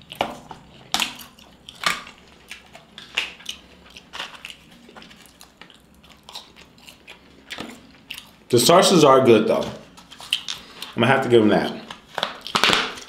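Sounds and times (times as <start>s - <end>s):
person chewing crunchy fries: 0.0s - 8.5s, 9.8s - 13.0s.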